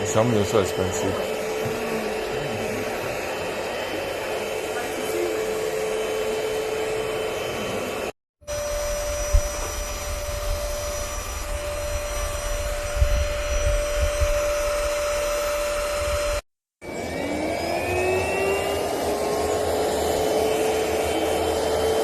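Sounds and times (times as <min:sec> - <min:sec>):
stick vacuum cleaner whining: 0:00.0 - 0:22.0.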